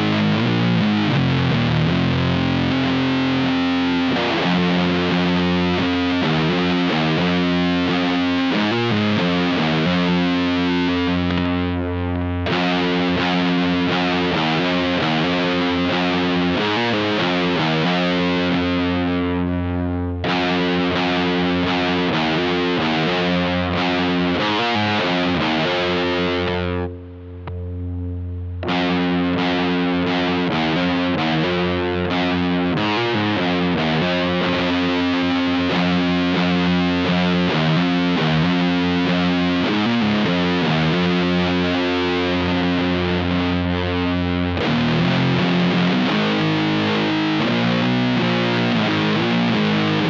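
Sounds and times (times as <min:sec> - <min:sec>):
fuzzed electric guitar chords: 0:00.0 - 0:50.0.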